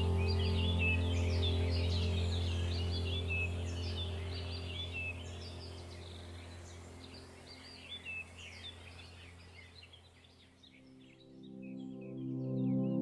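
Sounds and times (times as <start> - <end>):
low steady hum: 0.0 - 10.8
birds chirping and singing: 0.0 - 12.2.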